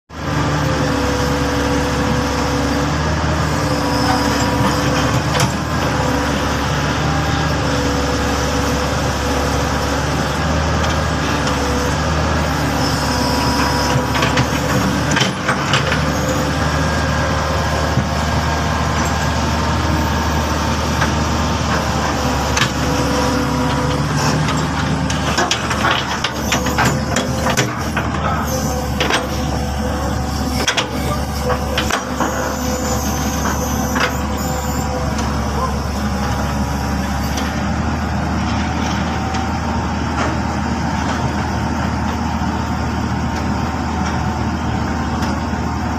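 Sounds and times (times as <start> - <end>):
diesel engine running: 0.1 - 45.9.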